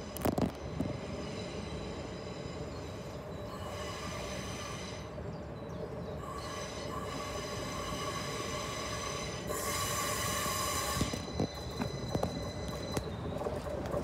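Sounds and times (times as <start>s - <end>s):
train low rumble: 0.0s - 14.0s
wheel squeal tone: 0.3s - 14.0s.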